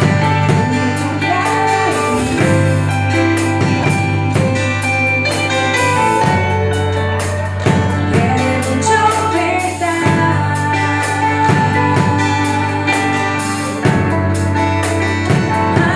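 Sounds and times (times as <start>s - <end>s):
band playing gospel song: 0.0s - 15.9s
drums beating: 0.0s - 15.9s.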